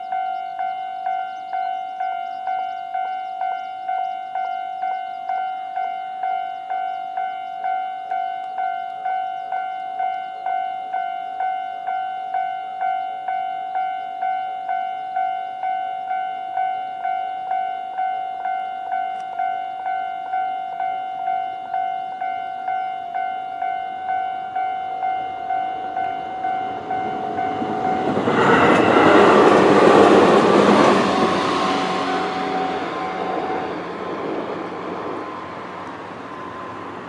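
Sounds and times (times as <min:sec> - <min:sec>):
level crossing bell ringing: 0:00.0 - 0:34.5
electric train passing: 0:00.0 - 0:37.0.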